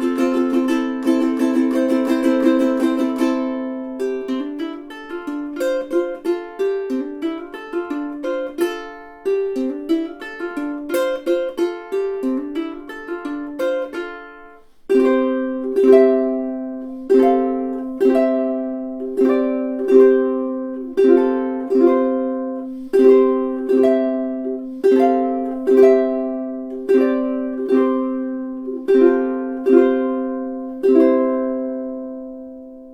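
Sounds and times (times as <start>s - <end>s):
ukulele chords strummed: 0.0s - 32.9s
ukulele picked notes: 0.0s - 32.9s.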